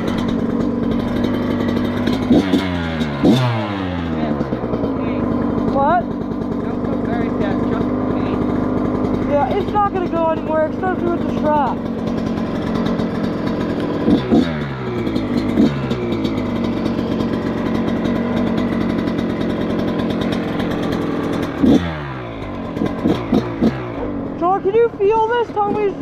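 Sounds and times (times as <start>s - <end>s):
dirt bike engine idling and revving: 0.0s - 26.0s.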